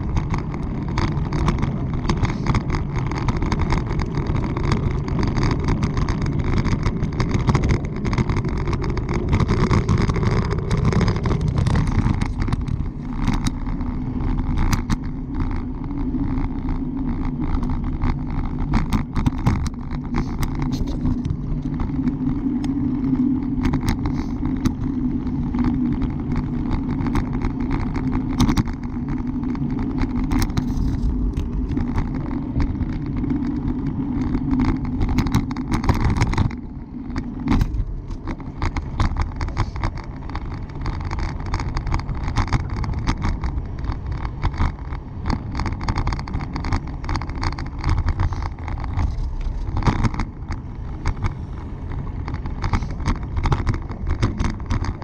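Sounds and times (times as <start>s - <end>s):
bicycle clicks and rattles: 0.0s - 55.0s
low hum: 0.0s - 55.0s
road and wind rumble: 0.0s - 55.0s.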